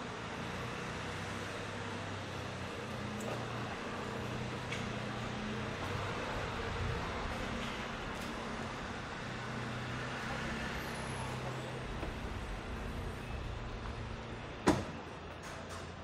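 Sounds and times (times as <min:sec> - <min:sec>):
low hum of traffic: 0:00.0 - 0:16.0.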